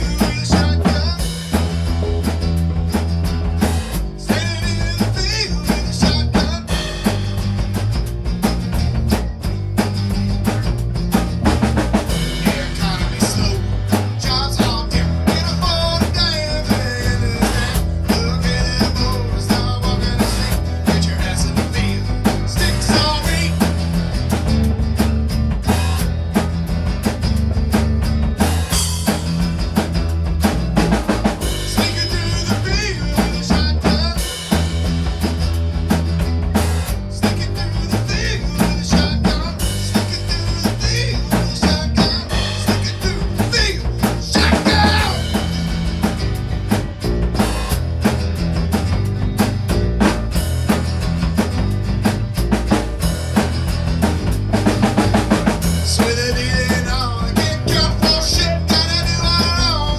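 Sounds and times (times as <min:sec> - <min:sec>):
drum kit beat: 0:00.0 - 0:59.9
rock band backing: 0:00.0 - 0:59.9.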